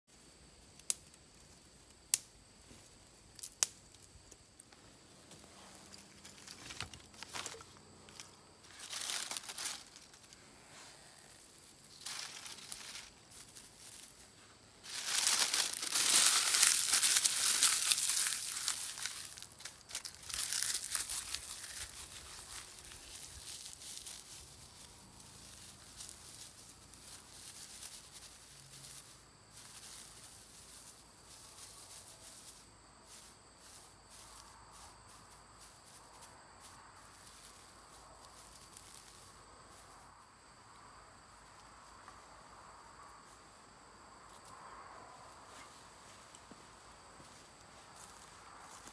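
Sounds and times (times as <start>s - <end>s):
dry grass crackling and rustling: 0.7s - 42.4s, 45.3s - 48.9s.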